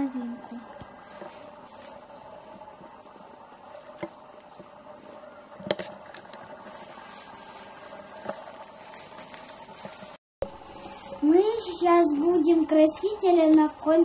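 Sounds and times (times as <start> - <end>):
faint steady hiss: 0.0 - 14.0
plastic bag crinkling: 0.0 - 14.0.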